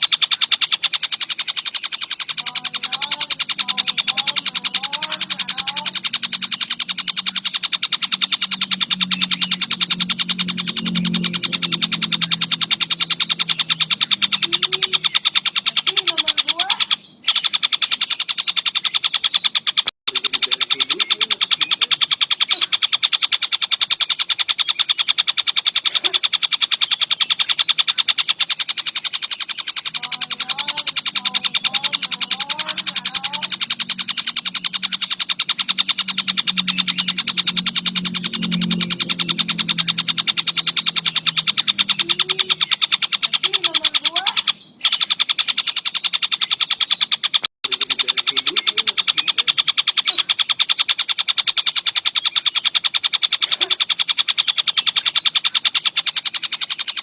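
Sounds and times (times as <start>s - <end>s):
kingfisher calling: 0.0s - 57.0s.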